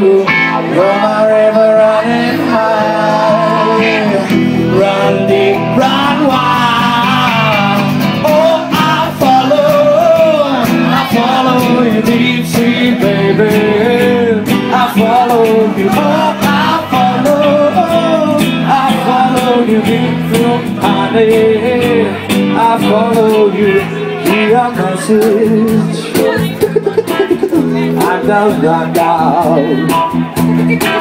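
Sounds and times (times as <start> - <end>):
live band playing: 0.0 - 31.0
person singing: 0.0 - 31.0.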